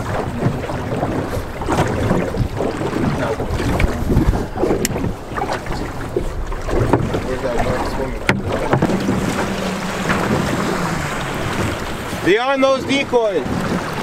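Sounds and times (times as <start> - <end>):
waves slapping against boat hull: 0.0 - 14.0
wind buffeting microphone: 0.0 - 14.0.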